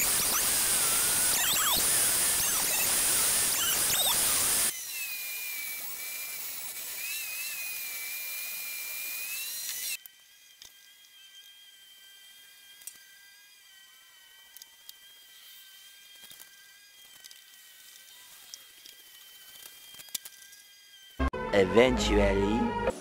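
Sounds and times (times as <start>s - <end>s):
thickness planer whining: 0.0s - 23.0s.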